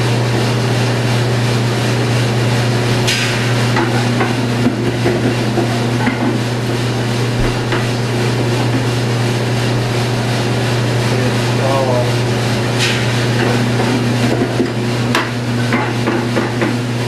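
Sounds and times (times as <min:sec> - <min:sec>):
coffee roaster motor hum: 0:00.0 - 0:17.0.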